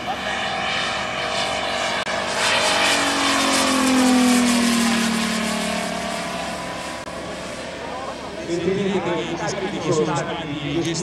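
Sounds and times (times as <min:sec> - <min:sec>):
model airplane engine flying past: 0:00.0 - 0:11.0.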